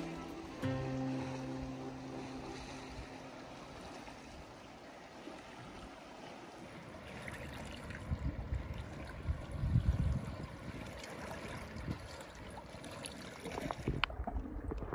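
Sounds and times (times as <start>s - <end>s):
seawater lapping: 0.0s - 14.2s.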